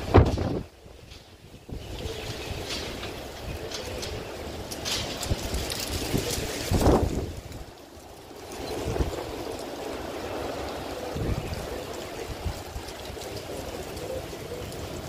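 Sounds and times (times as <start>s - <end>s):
heavy rain hiss: 0.0s - 15.0s
wind buffeting microphone: 0.0s - 15.0s.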